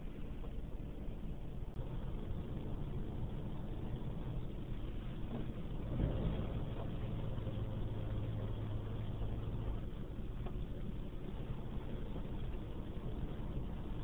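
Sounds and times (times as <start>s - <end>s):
car running from inside cabin: 0.0s - 14.0s.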